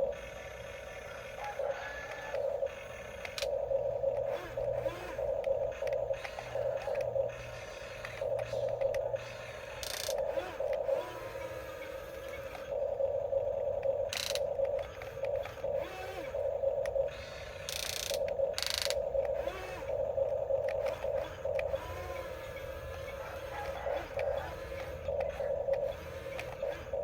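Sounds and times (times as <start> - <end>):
small electric motors whirring: 0.0 - 27.0.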